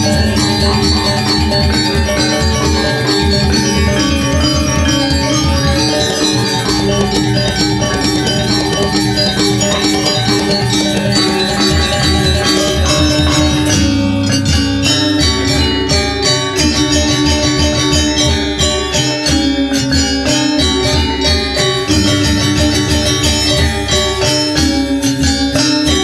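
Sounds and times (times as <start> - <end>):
hand-held gong steady pulse: 0.0 - 26.0
kettle gongs played with sticks: 0.0 - 26.0
metallophones struck with mallets: 0.0 - 26.0.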